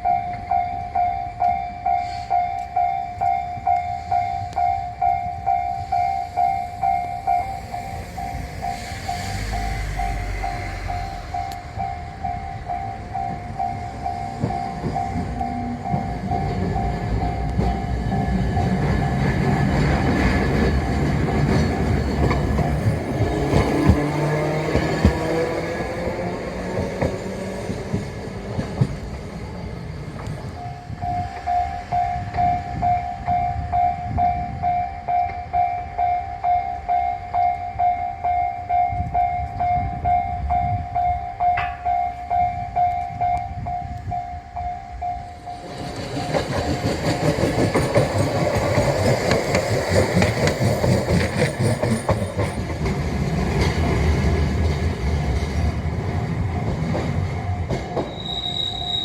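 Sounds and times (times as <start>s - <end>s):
railroad crossing alarm ringing: 0.0s - 59.0s
train wheels rumbling and clacking: 0.0s - 59.0s.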